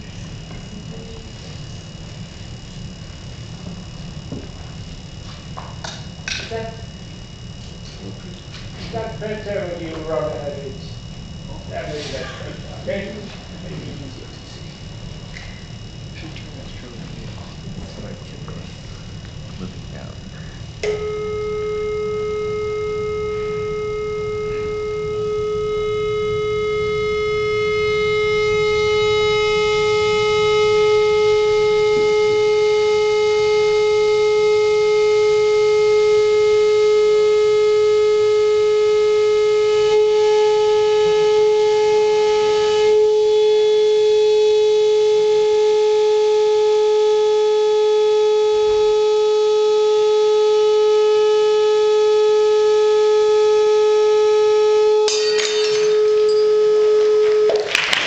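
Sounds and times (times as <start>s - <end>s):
steady pure tone from loudspeaker: 0.0s - 58.0s.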